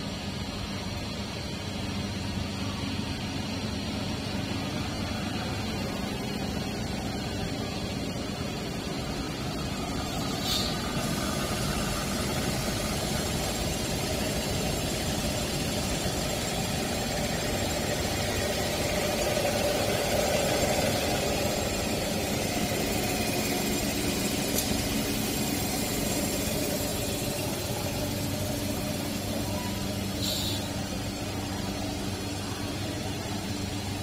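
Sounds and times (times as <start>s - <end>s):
machine whirring: 0.2s - 34.0s.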